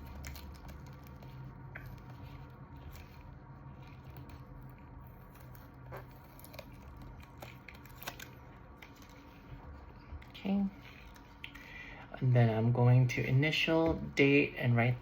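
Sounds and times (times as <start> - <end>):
plastic dressing rustling: 0.0 - 14.5
low steady hum: 0.0 - 15.0.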